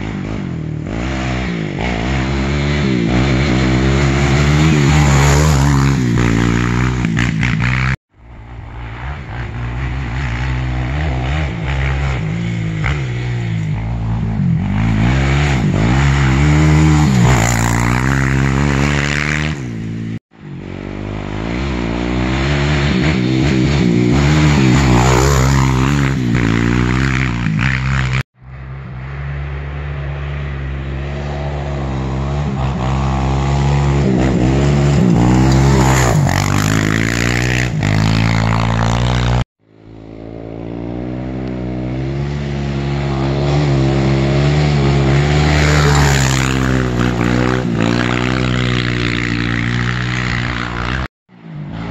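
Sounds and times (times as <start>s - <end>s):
quad engine revving hard: 0.0s - 8.0s, 9.2s - 28.2s, 31.5s - 39.4s, 40.8s - 51.1s.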